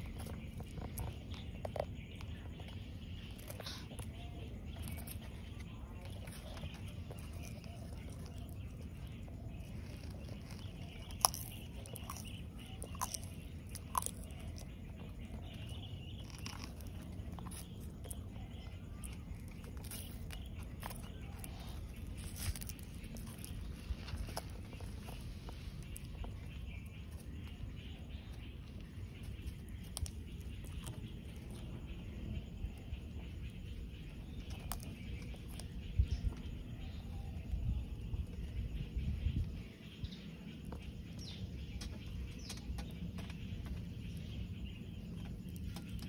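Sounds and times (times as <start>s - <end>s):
tortoise chewing leaves: 0.0s - 46.0s.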